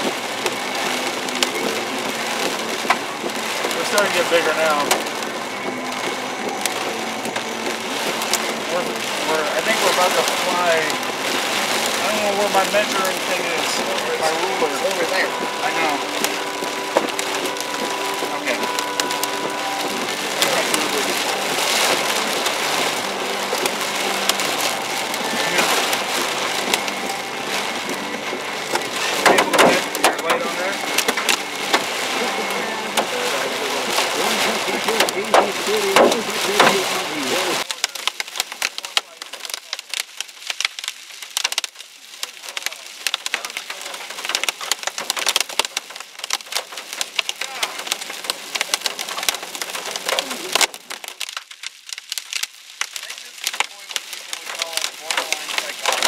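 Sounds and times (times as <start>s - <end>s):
hailstones knocking: 0.0s - 56.0s
rain on a vehicle roof: 0.0s - 56.0s.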